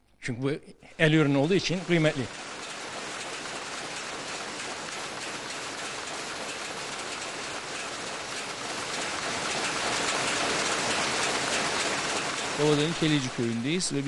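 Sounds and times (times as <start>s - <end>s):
power looms clattering: 1.0s - 14.0s.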